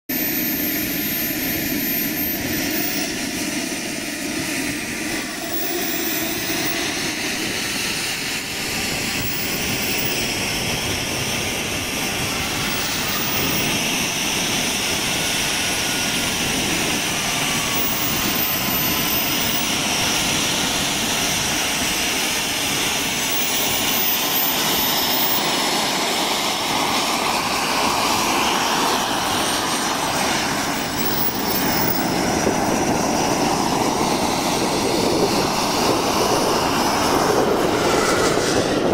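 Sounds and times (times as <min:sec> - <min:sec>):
model jet turbine running: 0:00.1 - 0:38.9.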